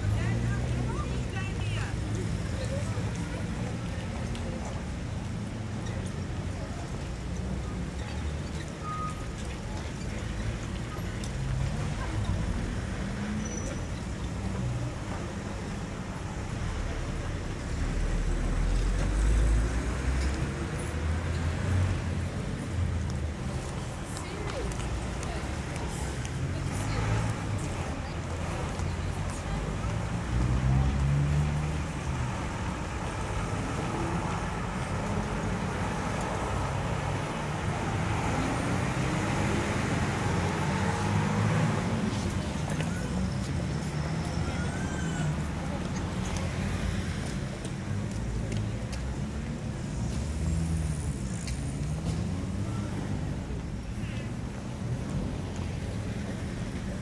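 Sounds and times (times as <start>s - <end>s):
street traffic rumbling: 0.0s - 57.0s.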